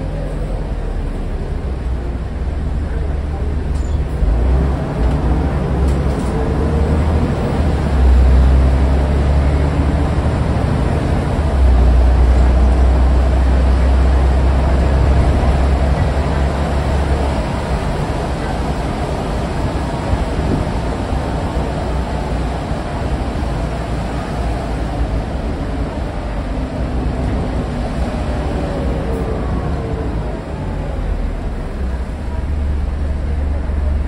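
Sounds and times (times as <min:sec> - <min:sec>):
bus engine and road noise drone: 0:00.0 - 0:34.0.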